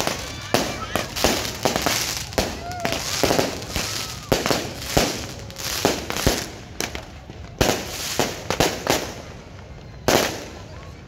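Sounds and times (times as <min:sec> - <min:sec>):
firecracker bangs: 0:00.0 - 0:09.4
fireworks crackling: 0:00.0 - 0:11.0.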